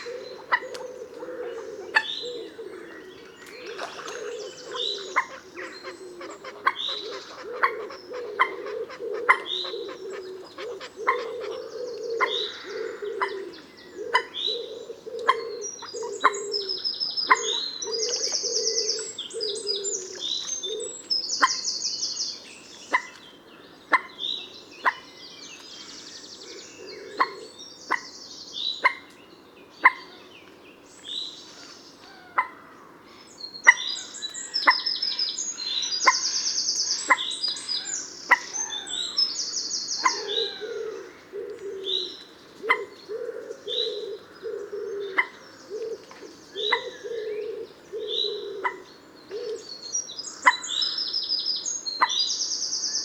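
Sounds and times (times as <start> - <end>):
moorhen calling: 0.0 - 29.2, 31.1 - 53.0.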